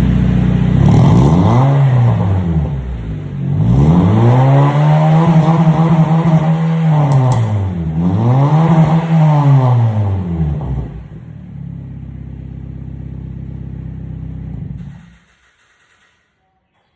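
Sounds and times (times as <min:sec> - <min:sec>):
car engine revving and idling: 0:00.0 - 0:15.2.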